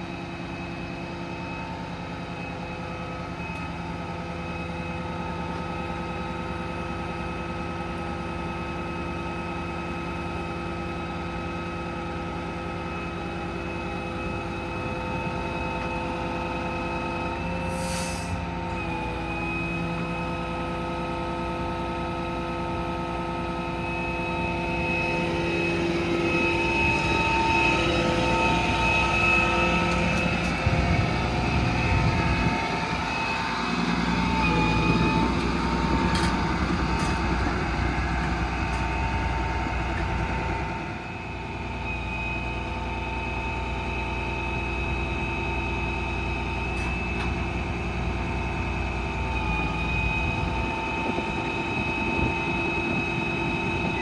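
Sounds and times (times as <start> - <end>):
diesel engine rumble: 0.0 - 54.0
hydraulic crane whine: 0.0 - 54.0.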